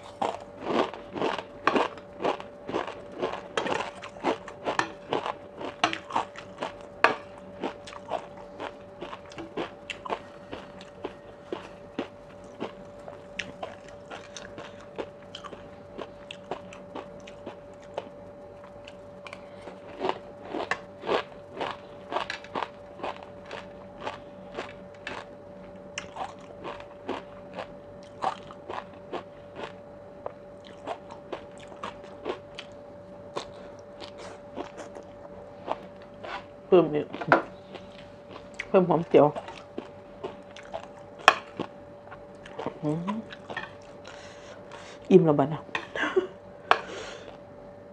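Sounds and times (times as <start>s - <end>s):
chewing crunchy food: 0.0s - 45.1s
faint steady hum: 0.0s - 47.9s.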